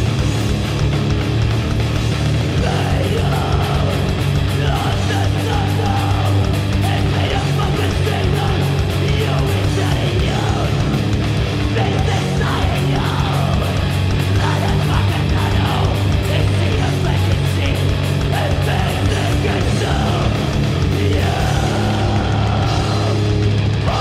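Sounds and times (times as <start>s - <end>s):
heavy metal band playing: 0.0s - 24.0s.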